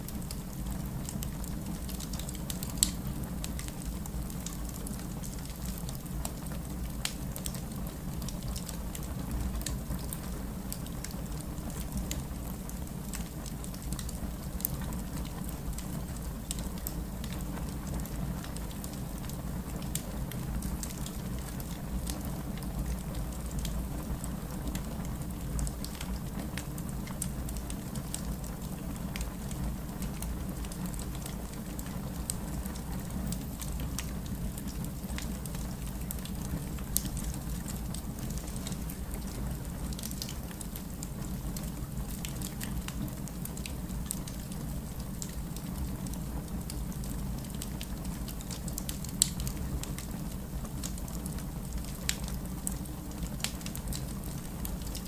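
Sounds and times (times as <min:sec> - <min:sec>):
wood fire crackling: 0:00.0 - 0:55.0
fire pops and snaps: 0:00.1 - 0:23.8, 0:25.5 - 0:55.0.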